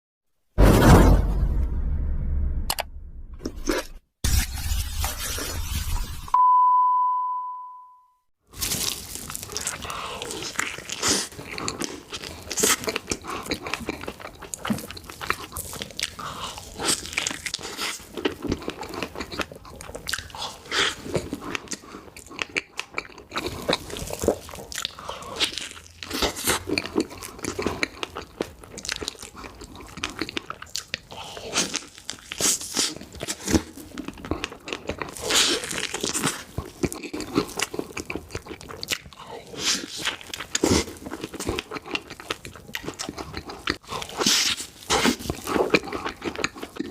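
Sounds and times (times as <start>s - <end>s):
crunchy bites and chewing: 8.5s - 46.9s.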